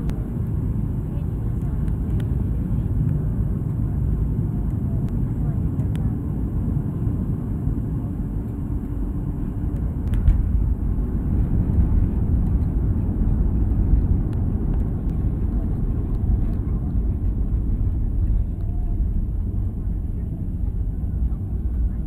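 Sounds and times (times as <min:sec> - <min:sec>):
airliner engines rumbling: 0:00.0 - 0:22.0.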